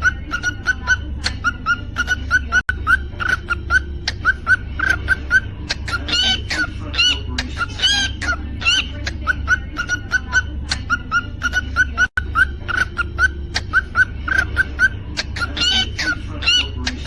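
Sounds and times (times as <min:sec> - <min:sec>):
cockatiel chirping and whistling: 0:00.0 - 0:17.0
steady low hum: 0:00.0 - 0:17.0.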